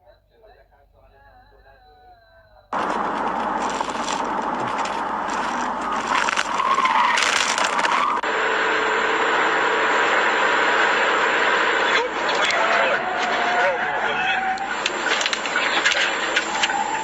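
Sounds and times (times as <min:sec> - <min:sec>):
moving car road and engine noise: 0:02.8 - 0:17.0.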